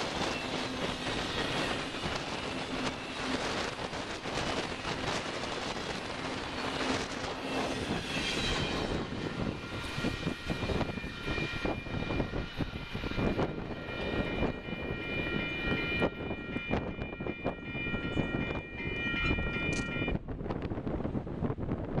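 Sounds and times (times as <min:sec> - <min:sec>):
steady high-pitched ringing: 0:00.0 - 0:20.2
train wheels rumbling on rails: 0:00.0 - 0:22.0
wind buffeting microphone: 0:00.0 - 0:22.0.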